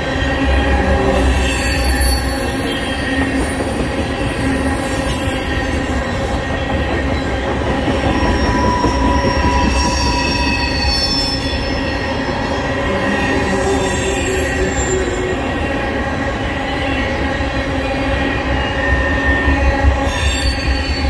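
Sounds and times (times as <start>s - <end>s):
high wheel squeals: 0.0s - 21.0s
train wheels rumbling on rails: 0.0s - 21.0s.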